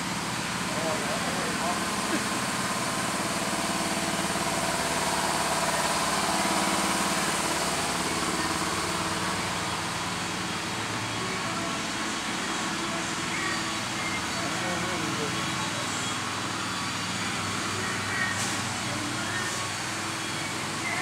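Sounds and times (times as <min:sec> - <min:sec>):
engine-like mechanical drone: 0:00.0 - 0:21.0.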